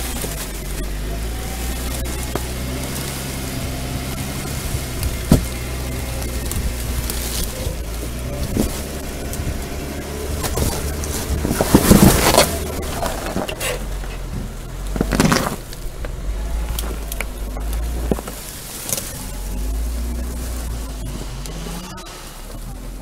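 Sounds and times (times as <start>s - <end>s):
car engine running low: 0.0s - 23.0s
tires crunching over rock: 0.0s - 23.0s.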